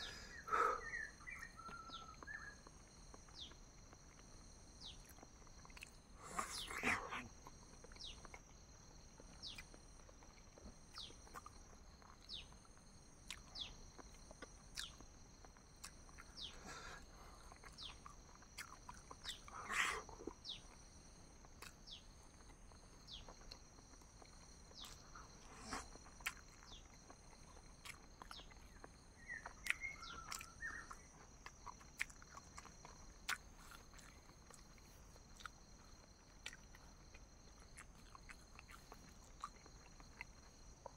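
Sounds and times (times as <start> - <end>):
chewing and wet mouth clicks: 1.0 - 40.9.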